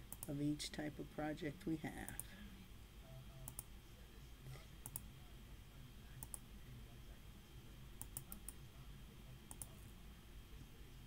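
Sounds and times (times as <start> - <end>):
faint low room hum: 0.0 - 11.0.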